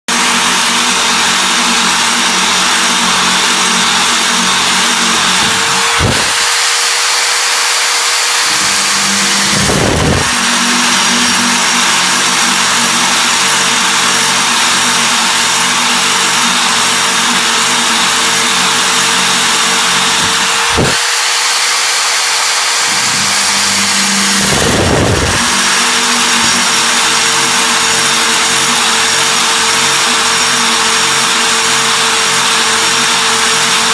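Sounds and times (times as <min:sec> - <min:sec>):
power drill grinding: 0:00.1 - 0:33.9.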